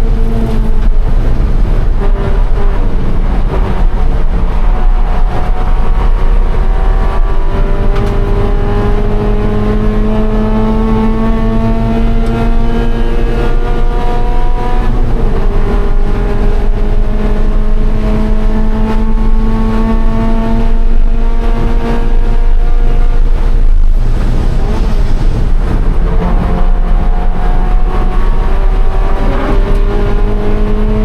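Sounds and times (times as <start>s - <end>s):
car engine accelerating: 0.0s - 31.0s
road and wind noise: 0.0s - 31.0s.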